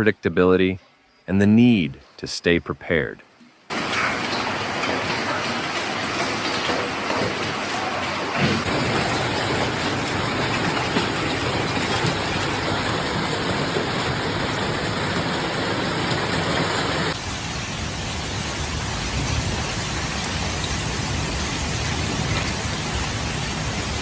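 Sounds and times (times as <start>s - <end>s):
heavy storm rain and wind: 3.7s - 24.0s.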